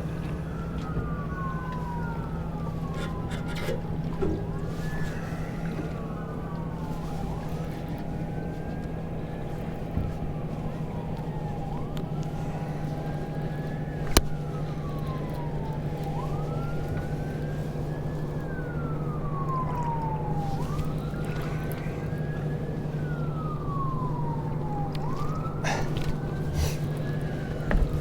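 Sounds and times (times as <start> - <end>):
low motor hum: 0.0 - 28.0
siren wailing: 0.0 - 28.0.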